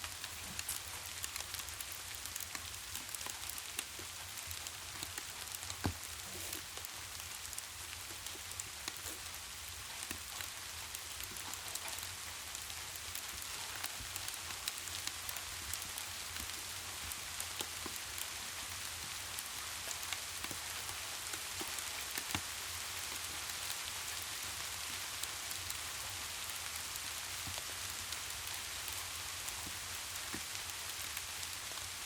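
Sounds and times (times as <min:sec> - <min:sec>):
fireplace crackling: 0:00.0 - 0:32.0
rain falling: 0:00.0 - 0:32.0.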